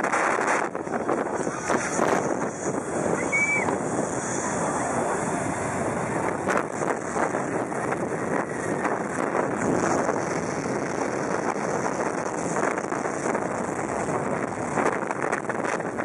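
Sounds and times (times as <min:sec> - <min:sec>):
blown sand: 0:00.0 - 0:15.8
jet engine blast: 0:00.0 - 0:16.0
wind noise on microphone: 0:00.0 - 0:16.0.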